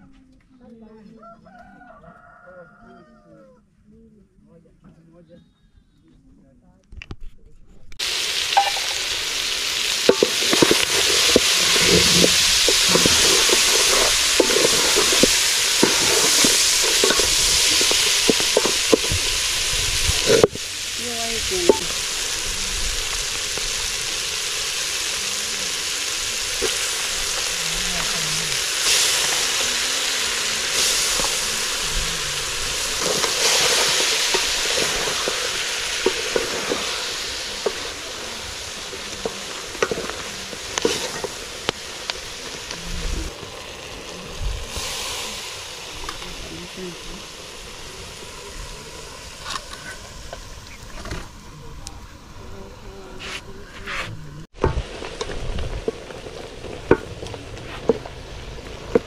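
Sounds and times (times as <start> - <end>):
meat sizzling in a pot: 8.0 - 59.0.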